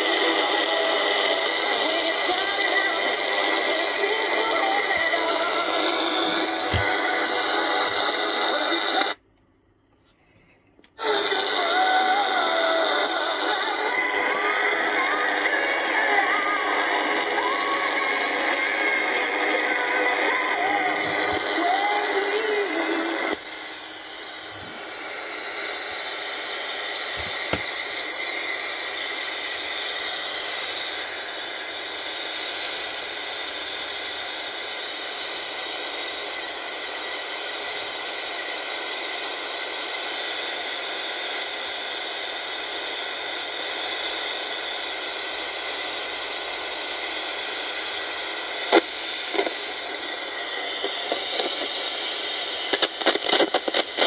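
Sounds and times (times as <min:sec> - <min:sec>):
radio static hiss: 0:00.0 - 0:09.2, 0:10.0 - 0:54.0.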